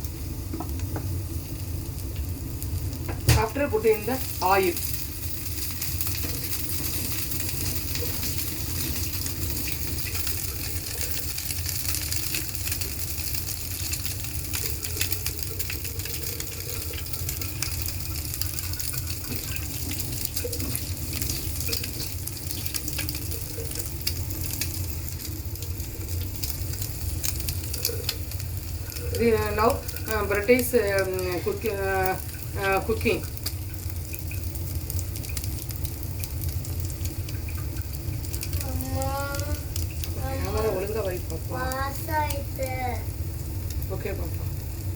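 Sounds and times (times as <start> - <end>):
bread sizzling in oil: 0.0 - 44.9.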